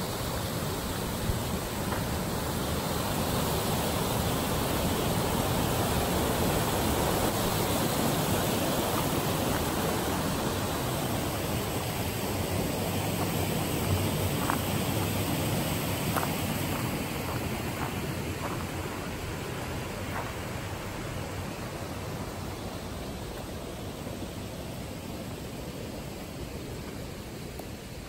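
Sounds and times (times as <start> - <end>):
stream rushing over stones: 0.0 - 28.0.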